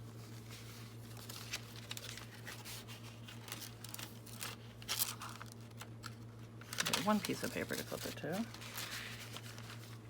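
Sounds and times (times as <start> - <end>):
paper rustling and crinkling: 0.0 - 10.0
steady low hum: 0.0 - 10.0.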